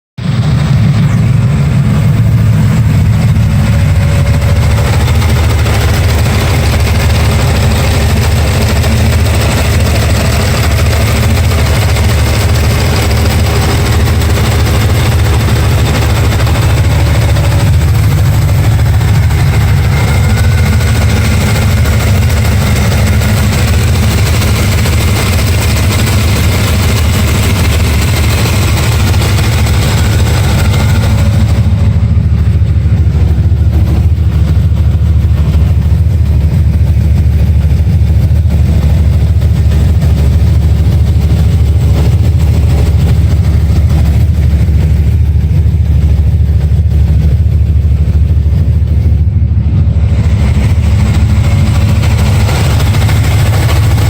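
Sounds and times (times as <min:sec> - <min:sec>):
car engine idling: 0:00.2 - 0:54.0.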